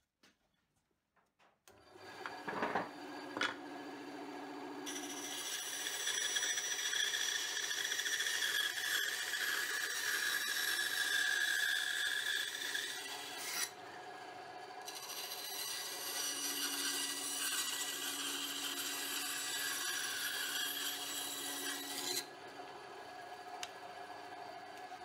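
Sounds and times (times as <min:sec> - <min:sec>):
bandsaw blade whine in wood: 0:01.9 - 0:25.0.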